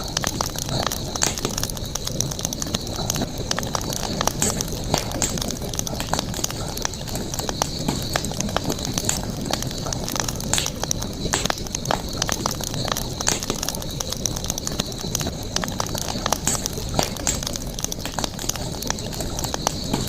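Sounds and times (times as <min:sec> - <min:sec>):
campfire crackling and popping: 0:00.0 - 0:20.0
campfire low rumble: 0:00.0 - 0:20.0.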